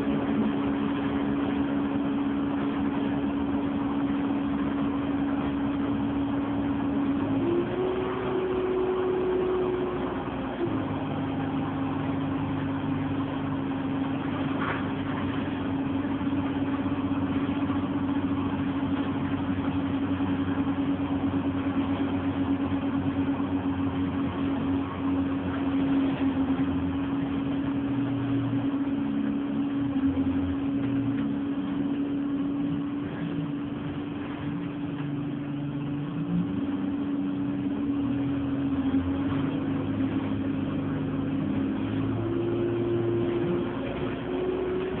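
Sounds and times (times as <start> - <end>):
bus engine whine: 0.0 - 45.0.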